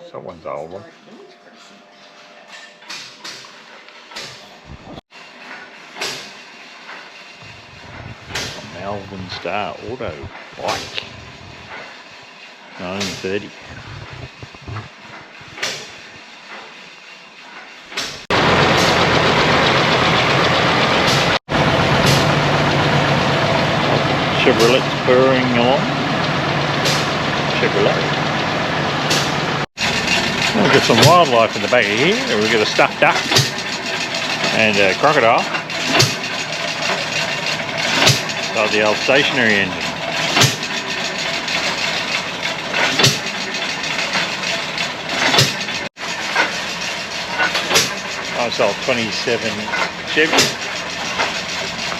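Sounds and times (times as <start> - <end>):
car engine idling: 7.4 - 11.9, 12.8 - 16.4, 18.3 - 51.9.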